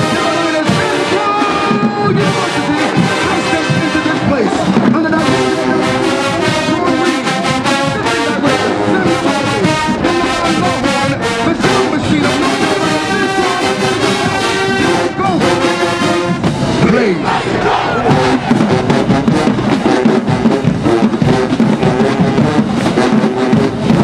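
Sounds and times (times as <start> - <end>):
brass section playing tune: 0.0 - 24.0
drums keeping steady beat: 0.0 - 24.0.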